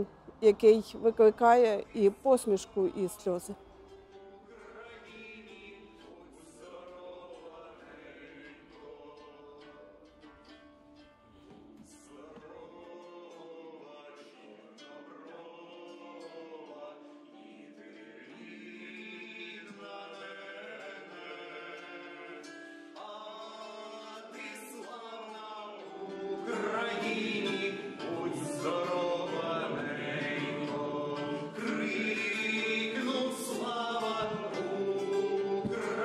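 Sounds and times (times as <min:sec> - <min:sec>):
voices singing together: 0:01.2 - 0:10.2, 0:11.7 - 0:36.0.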